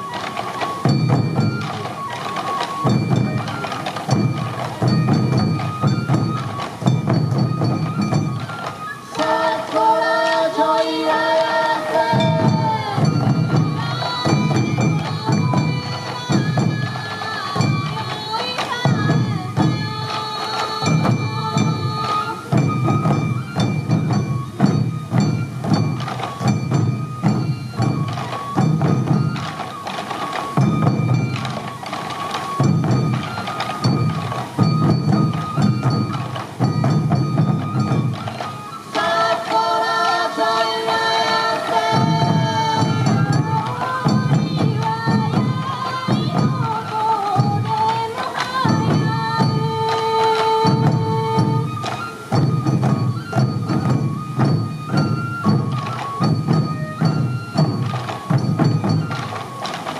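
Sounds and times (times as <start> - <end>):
taiko drums beating: 0.0 - 59.9.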